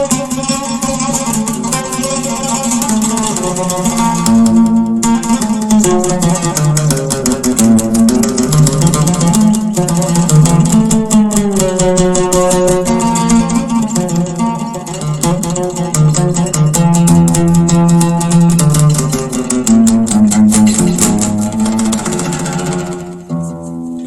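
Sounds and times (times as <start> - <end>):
oud plucked rapidly: 0.0 - 24.0.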